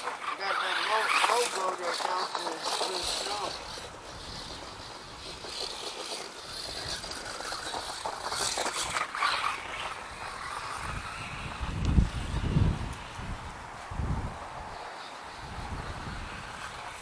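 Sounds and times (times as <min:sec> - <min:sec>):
rc truck driving through snow: 0:00.0 - 0:17.0
wind buffeting microphone: 0:00.0 - 0:17.0.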